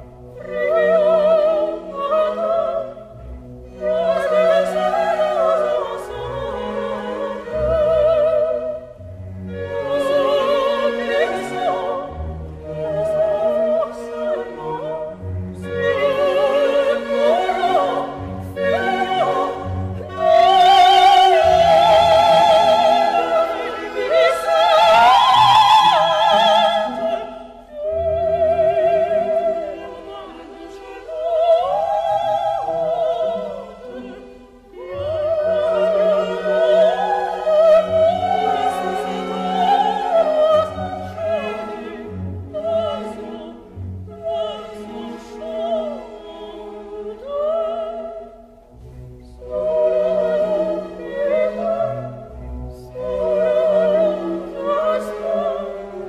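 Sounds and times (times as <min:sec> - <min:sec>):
orchestral accompaniment: 0:00.0 - 0:56.0.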